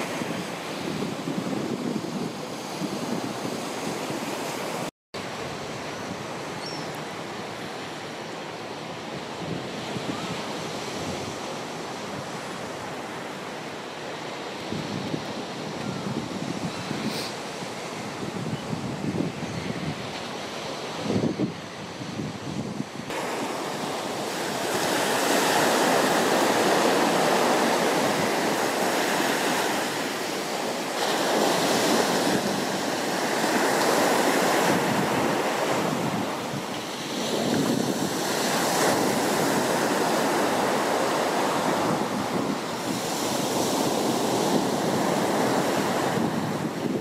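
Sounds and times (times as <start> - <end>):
surf breaking on a beach: 0.0 - 47.0.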